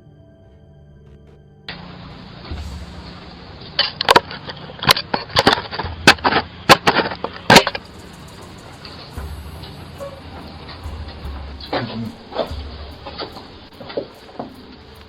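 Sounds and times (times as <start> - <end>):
background hiss: 0.4 - 15.0.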